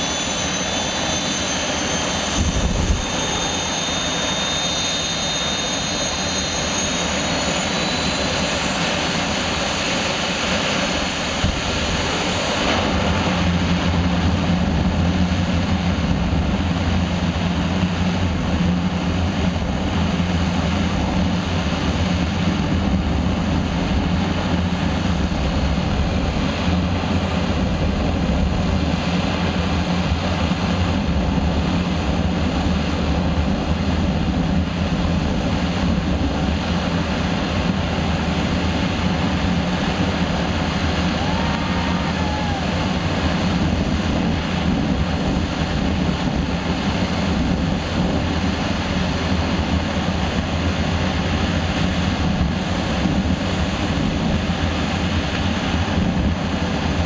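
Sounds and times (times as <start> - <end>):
thin high whine: 0.0 - 53.2
deep rumble: 0.0 - 57.0
jet engine roaring: 0.0 - 57.0.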